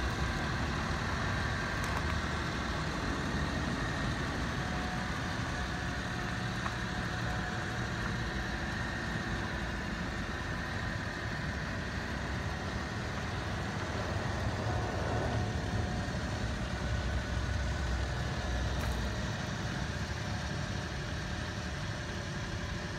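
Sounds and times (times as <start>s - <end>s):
small engine idling: 0.0s - 22.9s.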